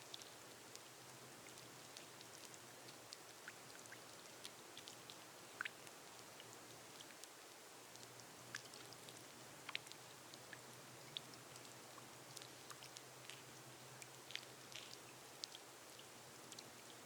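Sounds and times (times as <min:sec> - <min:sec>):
gentle rain hiss on glass roof: 0:00.0 - 0:17.0
raindrops ticking: 0:00.0 - 0:17.0.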